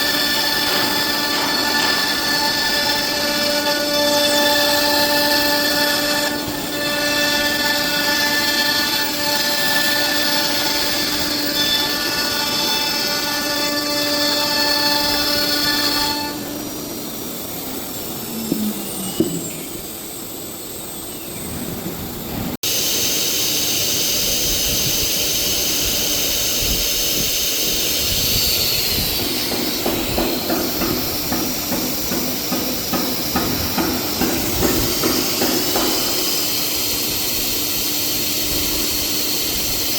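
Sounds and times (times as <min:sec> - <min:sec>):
router high whine: 0:00.0 - 0:21.4, 0:22.6 - 0:39.9.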